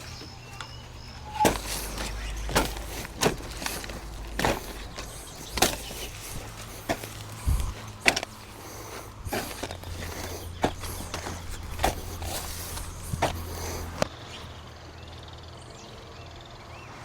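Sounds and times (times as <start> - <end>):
footsteps: 0.0 - 14.1.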